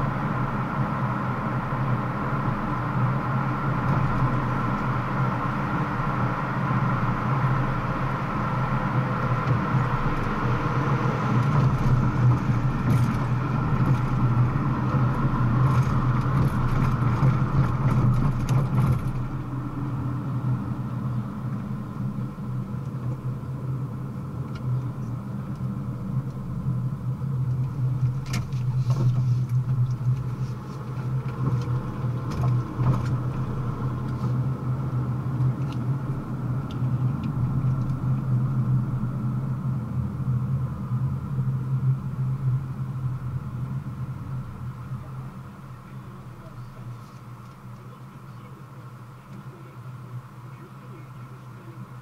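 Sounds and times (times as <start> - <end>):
car engine and road drone: 0.0 - 52.0.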